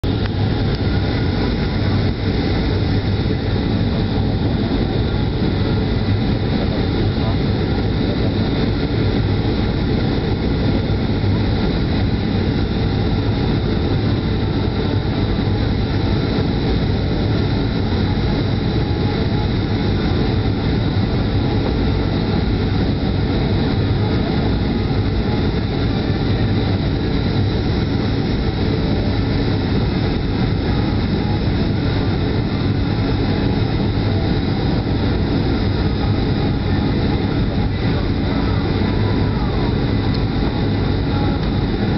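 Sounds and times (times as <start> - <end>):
jet engines droning: 0.0 - 41.9
low hum: 0.0 - 41.9
rush of air in cabin: 0.0 - 41.9.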